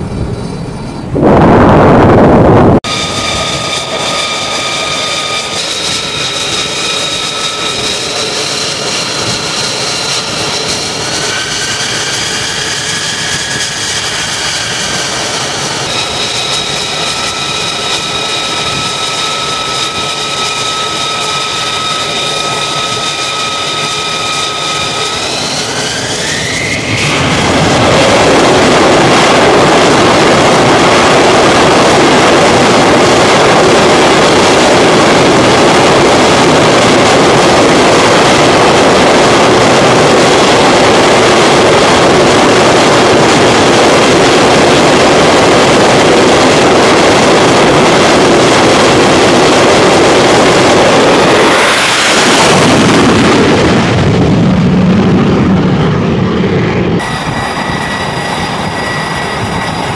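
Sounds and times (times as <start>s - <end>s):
jet engine roar: 0.0s - 59.9s
jet engine whining: 0.0s - 59.9s
jet rushing past: 0.0s - 59.9s.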